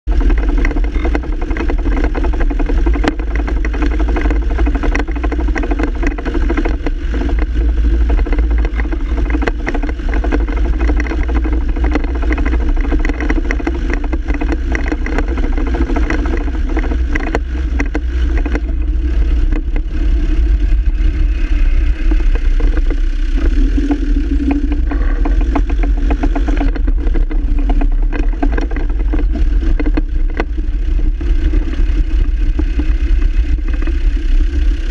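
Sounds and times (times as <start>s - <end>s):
diesel engine running: 0.0s - 34.9s
propshaft joint rattling: 0.1s - 34.9s.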